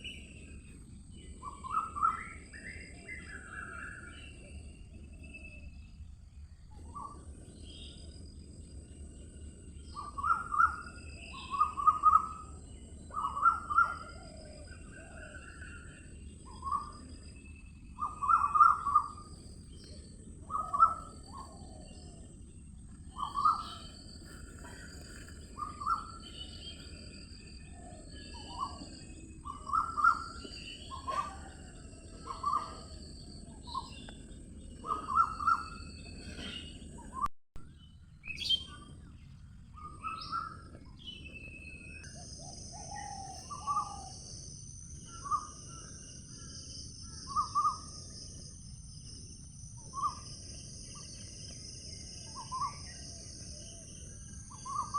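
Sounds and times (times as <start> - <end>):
birds chirping: 6.8 - 54.9.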